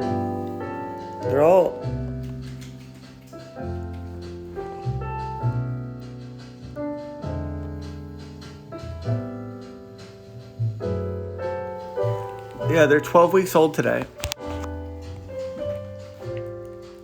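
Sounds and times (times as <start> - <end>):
jazz piano chords: 0.0 - 17.0.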